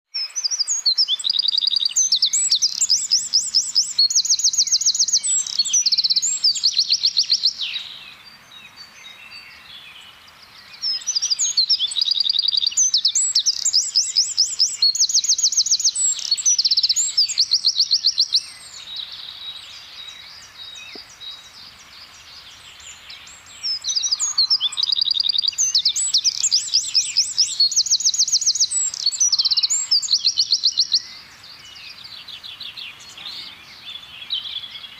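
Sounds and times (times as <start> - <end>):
wren singing trills: 0.1 - 34.9.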